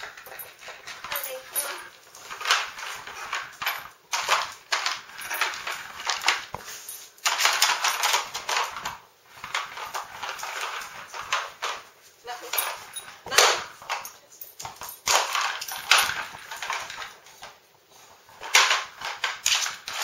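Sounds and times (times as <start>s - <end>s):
plastic puzzle clattering on tile floor: 0.0s - 20.0s.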